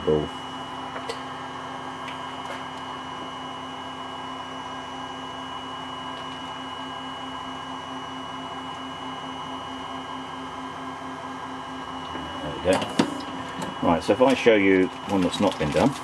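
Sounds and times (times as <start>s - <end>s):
electrical hum with high whine: 0.0s - 16.0s.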